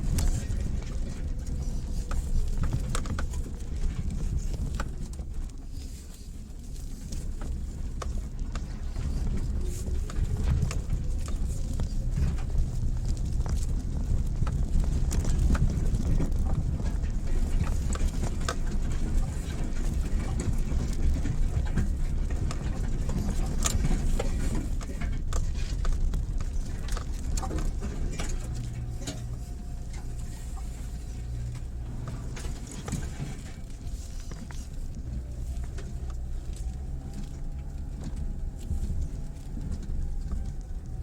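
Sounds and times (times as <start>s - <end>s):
car engine running low: 0.0s - 41.0s
stones crackling under tyres: 0.0s - 41.0s.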